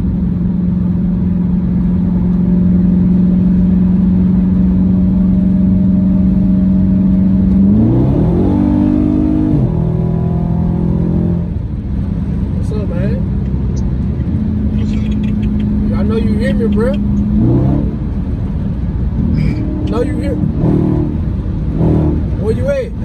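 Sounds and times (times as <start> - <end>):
car engine droning in cabin: 0.0 - 23.0.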